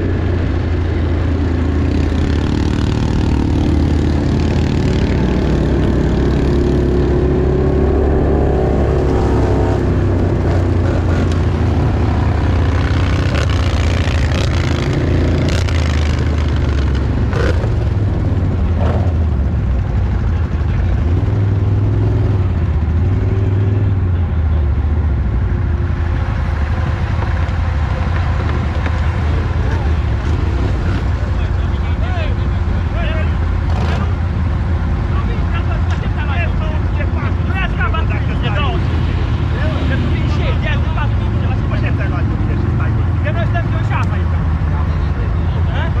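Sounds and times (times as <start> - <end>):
off-road vehicle engine running: 0.0 - 46.0.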